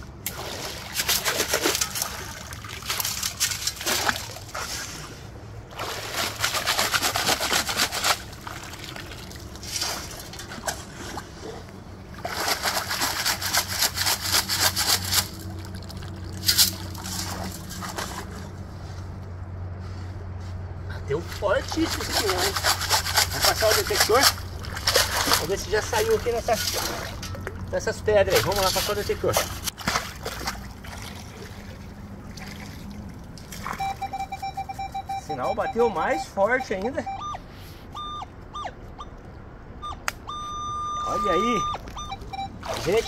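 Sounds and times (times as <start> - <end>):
water splashing and sloshing: 0.0 - 43.0.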